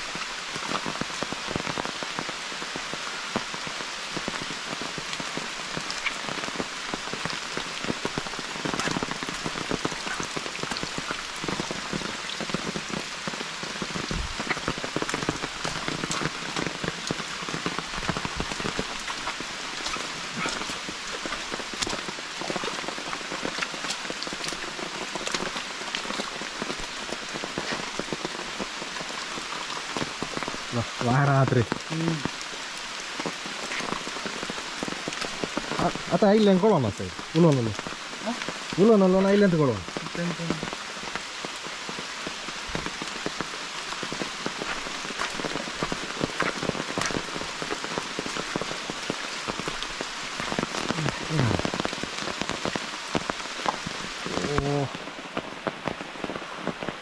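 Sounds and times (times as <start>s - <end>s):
raindrops tapping sharply: 0.0s - 57.0s
steady rain falling: 0.0s - 57.0s.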